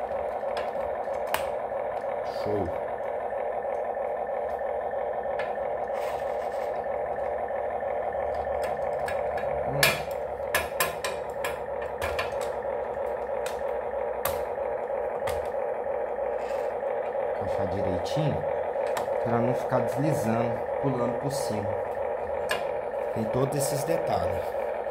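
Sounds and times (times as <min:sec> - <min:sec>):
toy engine sound buzzy drone: 0:00.0 - 0:24.9.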